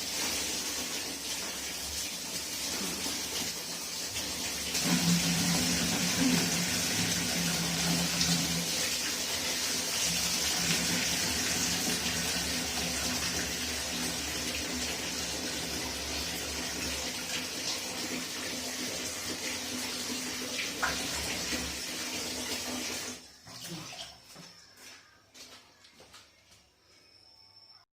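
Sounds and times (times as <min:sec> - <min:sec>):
water running from tap: 0:00.0 - 0:24.2.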